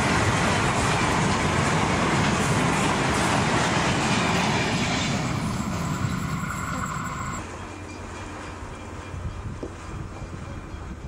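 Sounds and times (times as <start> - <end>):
distant train rumble: 0.0 - 11.0.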